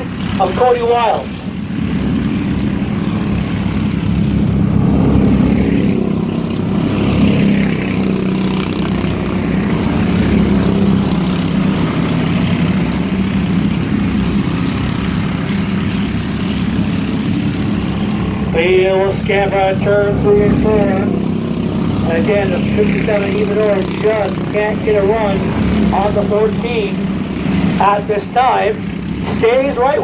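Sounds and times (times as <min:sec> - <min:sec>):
race truck engines droning: 0:00.0 - 0:30.0.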